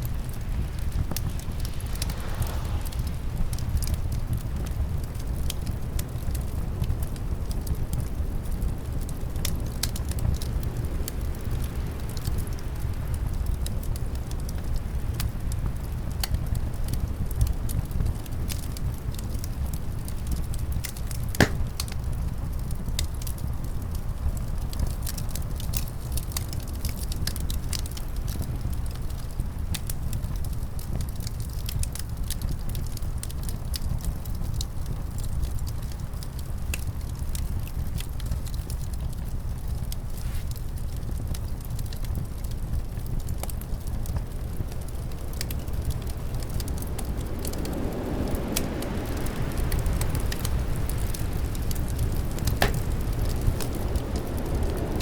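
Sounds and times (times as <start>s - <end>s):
wind rumble: 0.0s - 31.9s, 32.6s - 55.0s
fire popping: 0.0s - 55.0s
wood fire crackling: 0.0s - 55.0s.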